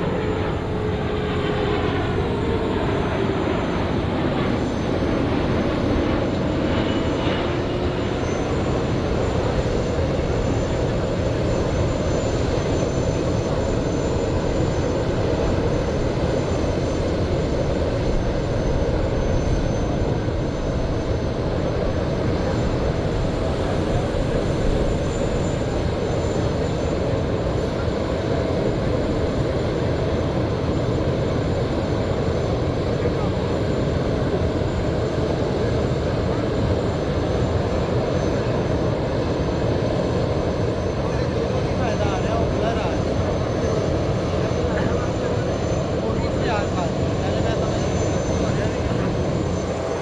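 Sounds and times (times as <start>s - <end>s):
jet engines in flight: 0.0s - 50.0s.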